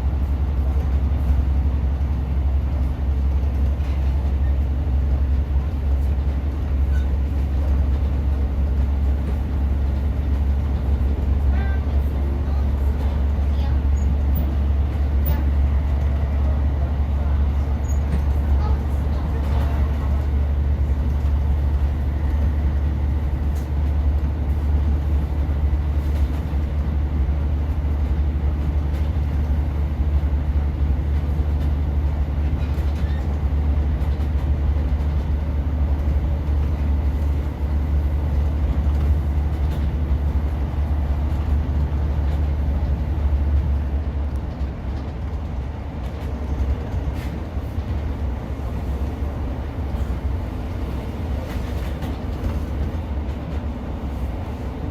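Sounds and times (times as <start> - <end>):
train engine drone and rumble: 0.0 - 54.9.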